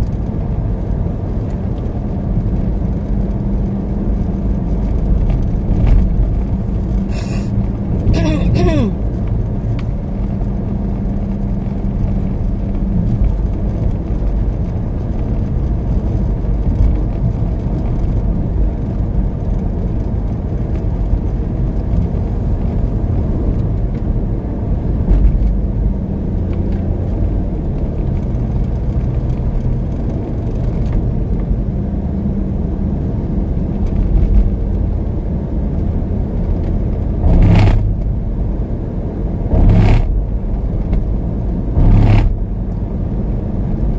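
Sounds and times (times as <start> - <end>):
car cabin road and engine noise: 0.0 - 43.9.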